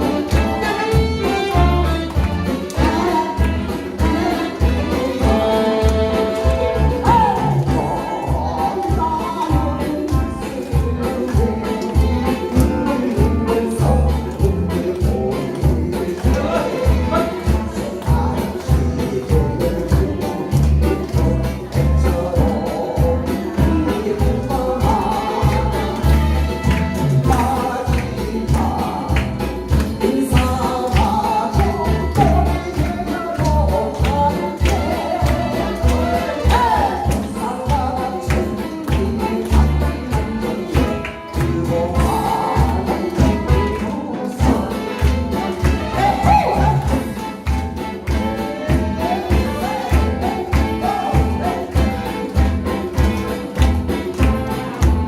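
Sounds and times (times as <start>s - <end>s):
heavy bass: 0.0s - 55.0s
live band music: 0.0s - 55.0s
person singing: 0.0s - 55.0s.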